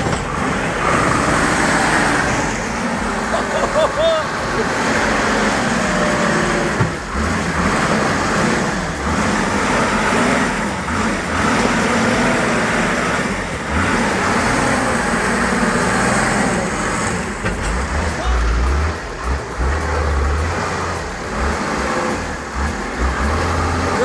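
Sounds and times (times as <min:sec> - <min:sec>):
road noise of driving: 0:00.0 - 0:24.0
truck engine running: 0:00.0 - 0:24.0.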